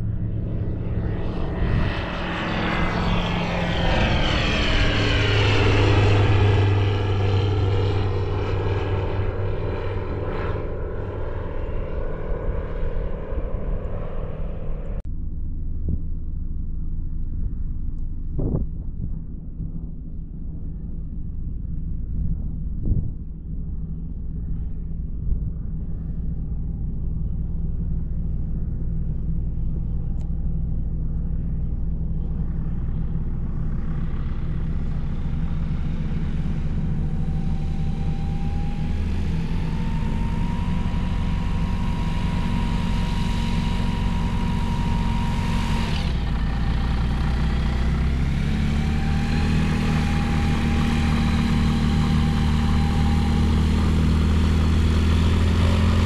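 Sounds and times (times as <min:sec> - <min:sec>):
propeller plane engine running: 0:00.0 - 0:56.0.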